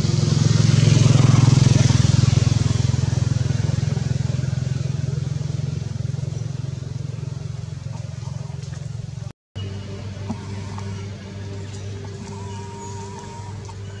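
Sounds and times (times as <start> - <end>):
motor vehicle engine humming: 0.0 - 14.0.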